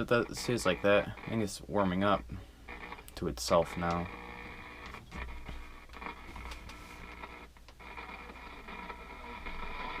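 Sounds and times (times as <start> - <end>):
radio static and hum: 0.0 - 10.0.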